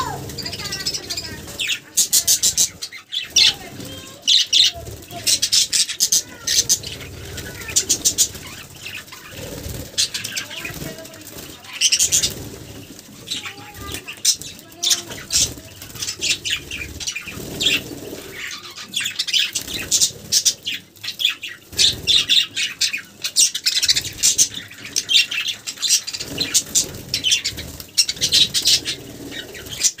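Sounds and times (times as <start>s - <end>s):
bird chirps and squawks: 0.0s - 30.0s
bird wings flapping: 3.3s - 18.6s, 19.2s - 30.0s.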